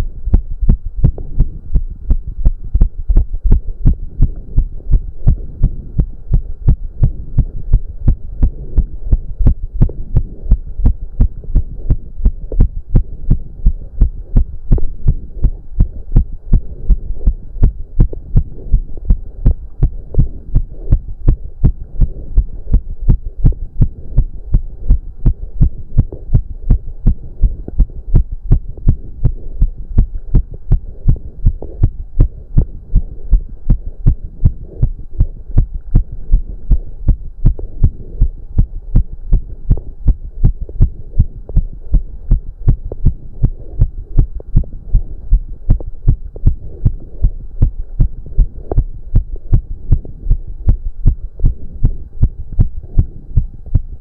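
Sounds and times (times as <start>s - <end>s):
fast heartbeat: 0.0s - 54.0s.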